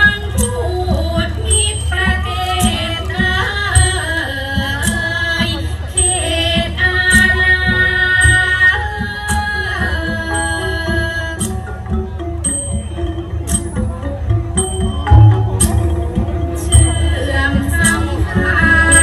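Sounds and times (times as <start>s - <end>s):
classical dance music over loudspeakers: 0.0s - 19.0s.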